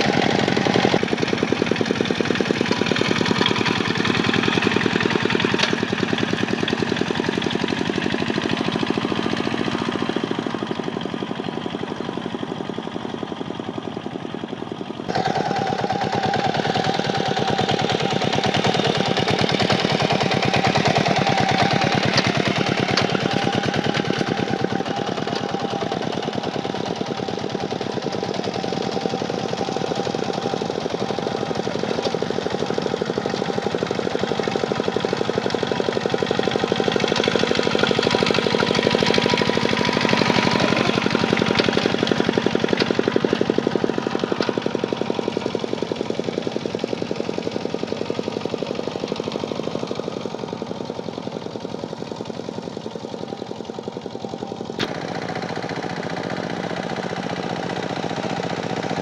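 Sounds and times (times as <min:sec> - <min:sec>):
tractor diesel engine knocking: 0:00.0 - 0:59.0.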